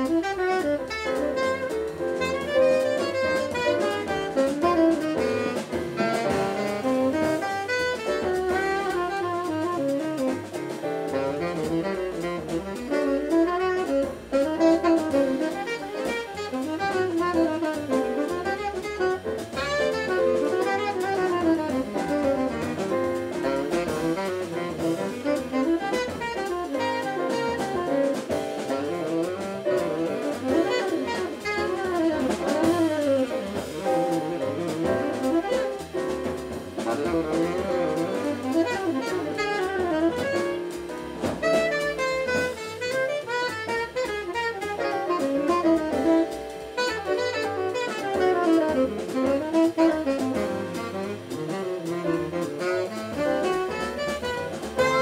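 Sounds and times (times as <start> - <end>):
double bass: 0.0 - 55.0
drum kit: 0.0 - 55.0
tenor saxophone solo: 0.0 - 55.0.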